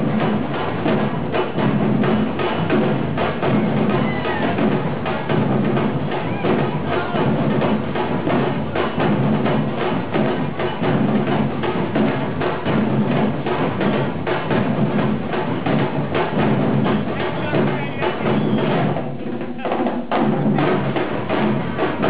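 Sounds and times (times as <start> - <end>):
music with busy percussion: 0.0 - 22.0.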